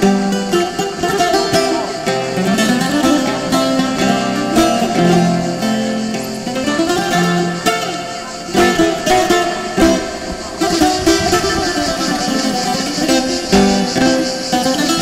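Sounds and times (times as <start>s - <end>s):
bouzouki melody: 0.0s - 15.0s.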